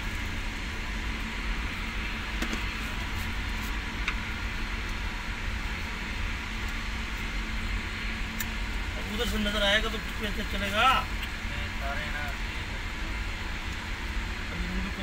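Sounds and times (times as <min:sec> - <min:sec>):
constant hiss: 0:00.0 - 0:15.0
faint steady hum: 0:00.0 - 0:15.0.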